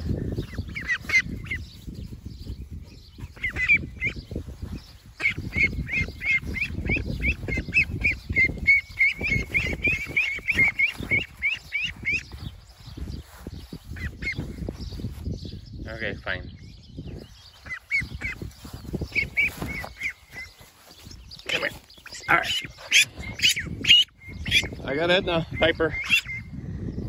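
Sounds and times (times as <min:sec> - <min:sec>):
ducklings peeping: 0:00.0 - 0:16.2, 0:17.0 - 0:26.6.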